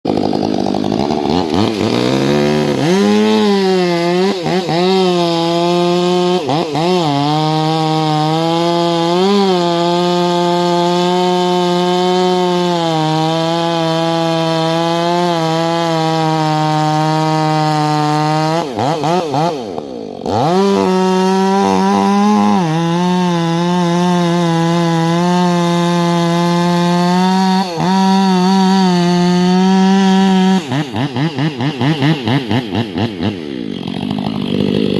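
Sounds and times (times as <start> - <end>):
chainsaw cutting at full throttle: 0.0 - 34.9.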